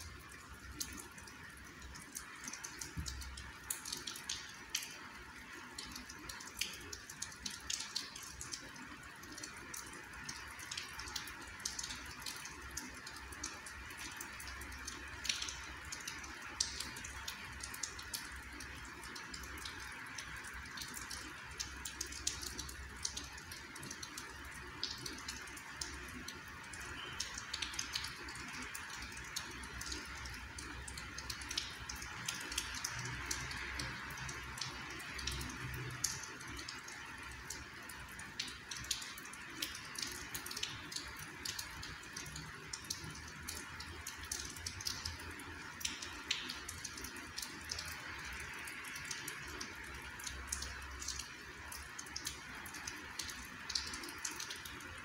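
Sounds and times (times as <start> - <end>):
light rain falling: 0.0 - 55.0
raindrops ticking and dripping: 0.0 - 55.0.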